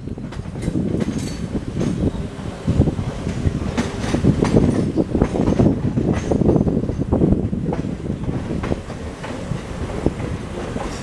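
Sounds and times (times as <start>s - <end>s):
train wheels rumbling on rail: 0.0s - 11.0s
wheels clacking over rail joints: 0.0s - 11.0s.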